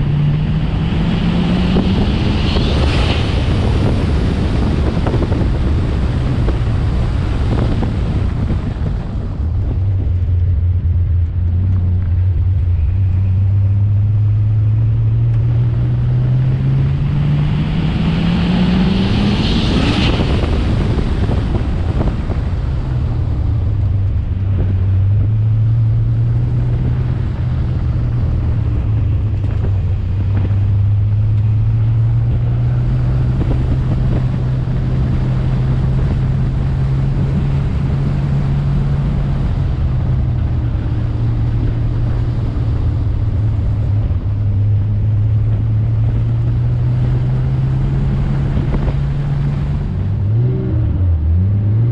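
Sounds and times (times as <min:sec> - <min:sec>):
car engine revving: 0:00.0 - 0:51.9
wind on microphone: 0:00.0 - 0:51.9.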